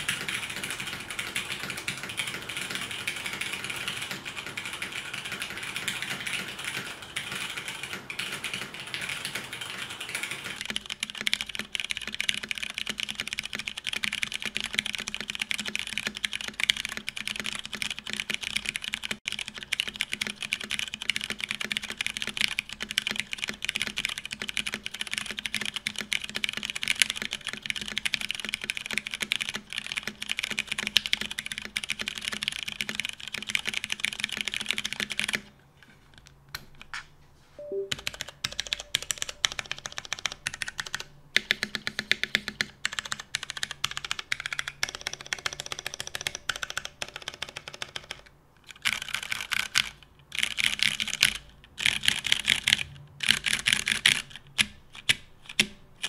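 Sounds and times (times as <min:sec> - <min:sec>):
mechanical keyboard typing: 0:00.0 - 0:35.5, 0:37.6 - 0:55.8.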